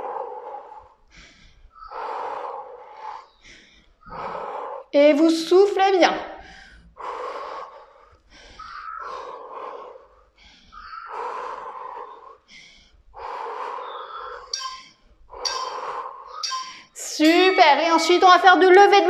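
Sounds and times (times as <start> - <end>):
woman breathing hard: 0.0 - 4.9, 6.3 - 17.0.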